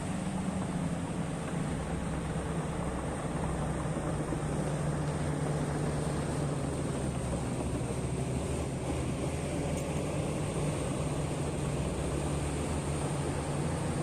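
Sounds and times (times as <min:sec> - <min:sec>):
heavy diesel machine running: 0:00.0 - 0:14.0.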